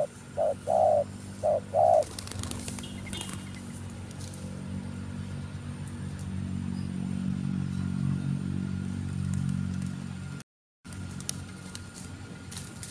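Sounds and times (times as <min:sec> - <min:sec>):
vehicle engine humming: 0:00.0 - 0:12.9.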